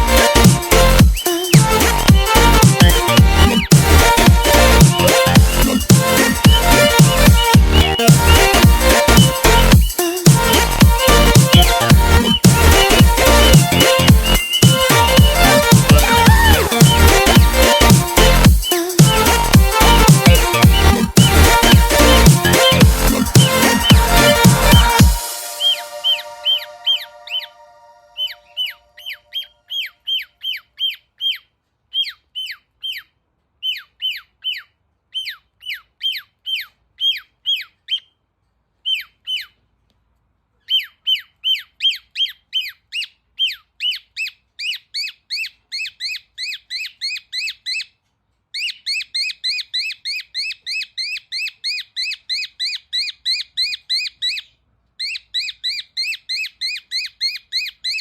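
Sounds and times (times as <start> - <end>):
cockatiel chirping: 1.0 - 38.2, 38.8 - 39.6, 40.6 - 58.0.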